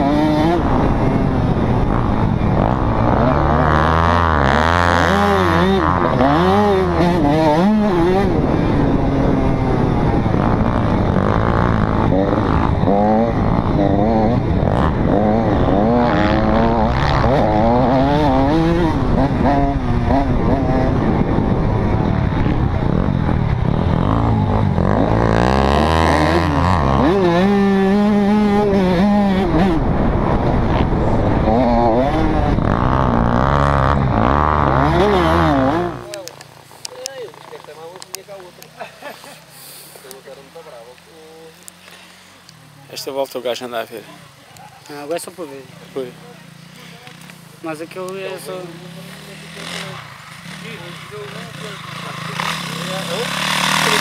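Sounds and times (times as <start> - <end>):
dirt bike engine revving: 0.0 - 44.4, 45.0 - 54.0.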